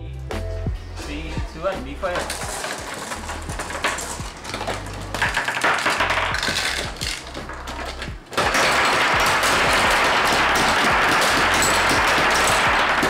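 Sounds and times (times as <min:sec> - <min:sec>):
background music: 0:00.0 - 0:13.0
marbles and plastic parts clattering: 0:00.9 - 0:13.0.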